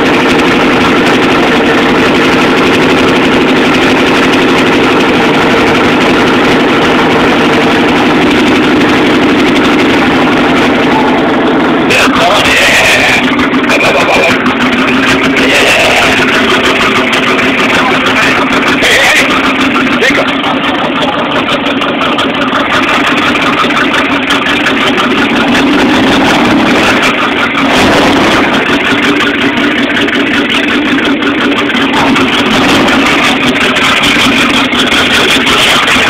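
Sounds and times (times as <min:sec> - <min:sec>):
engine running through open exhaust: 0:00.0 - 0:36.0.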